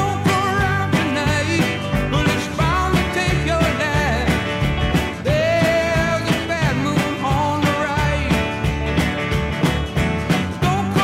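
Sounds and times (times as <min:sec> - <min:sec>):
song with steady drum beat: 0:00.0 - 0:11.0.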